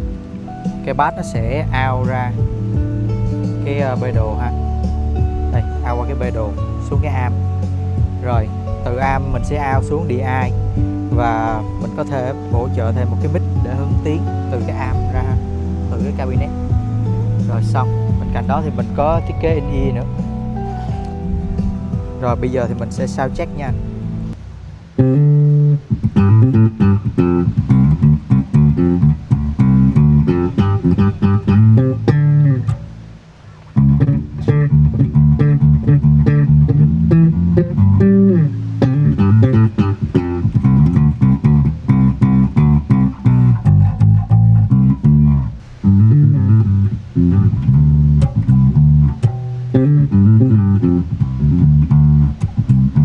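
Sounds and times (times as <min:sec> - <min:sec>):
electric bass plucked notes: 0:00.0 - 0:53.0.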